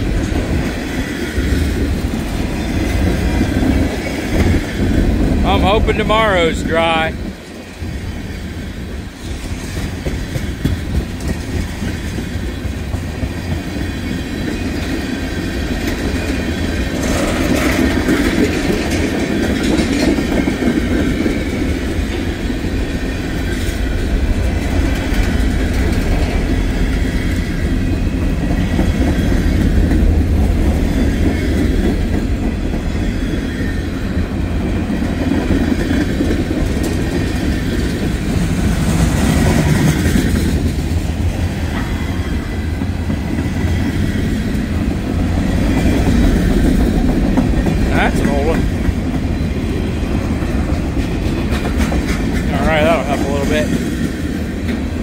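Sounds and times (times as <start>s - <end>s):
freight train cars rumbling: 0.0s - 55.0s
train wheel clicks: 9.3s - 33.7s, 34.9s - 55.0s.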